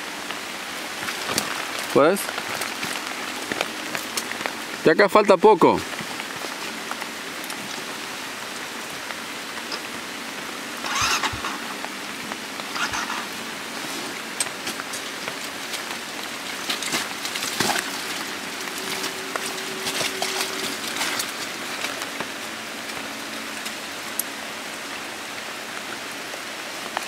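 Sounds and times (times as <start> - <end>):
steady rain patter: 0.0 - 27.0.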